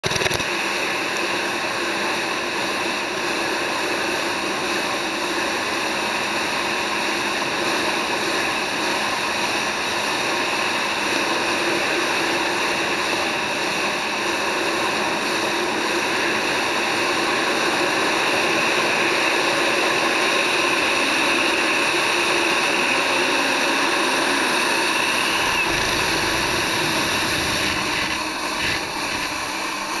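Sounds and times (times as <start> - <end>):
jet ski engine: 0.0 - 30.0
wind: 0.0 - 30.0.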